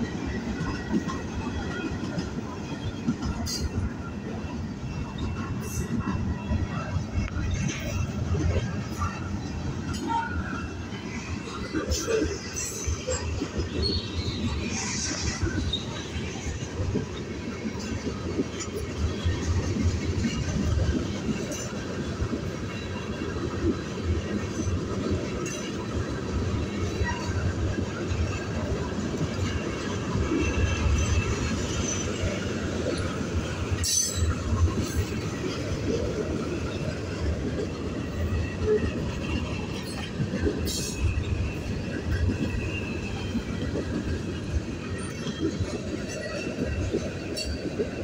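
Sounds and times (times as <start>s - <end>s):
train wheels rumbling on rails: 0.0s - 48.0s
wheels clicking over rail joints: 0.0s - 48.0s.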